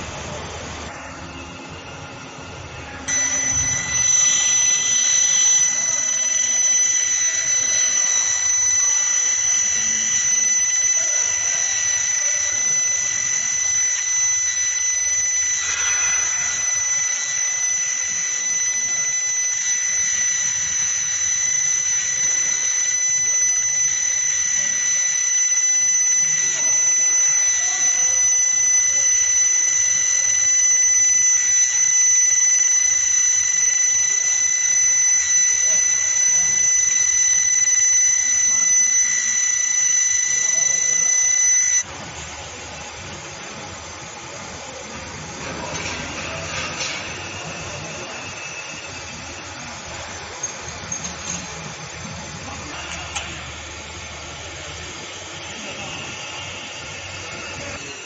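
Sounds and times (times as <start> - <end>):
laser machine high-pitched whine: 0.0 - 58.0.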